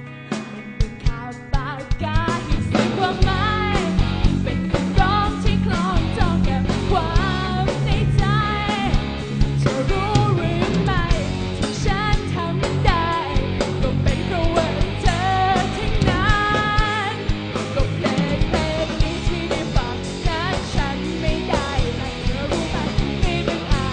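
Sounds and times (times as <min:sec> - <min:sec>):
bass guitar: 0:00.0 - 0:23.9
drum kit: 0:00.0 - 0:23.9
electric guitars: 0:00.0 - 0:23.9
woman singing: 0:00.8 - 0:23.9.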